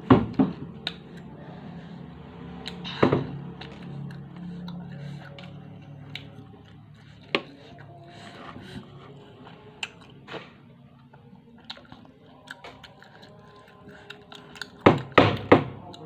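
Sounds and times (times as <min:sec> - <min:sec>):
person chewing a snack: 0:00.7 - 0:16.0.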